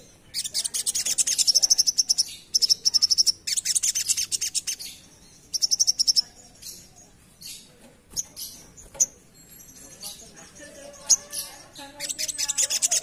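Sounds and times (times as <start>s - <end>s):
bird singing high chattering song: 0.0s - 13.0s.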